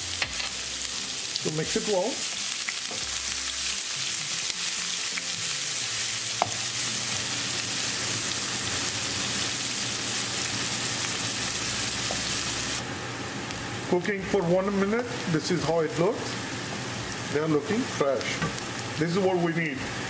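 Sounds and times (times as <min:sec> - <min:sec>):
food sizzling in hot oil: 0:00.0 - 0:19.5.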